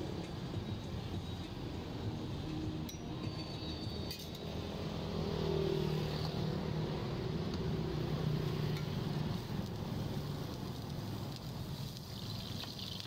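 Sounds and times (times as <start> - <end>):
street background noise: 0.0 - 13.0.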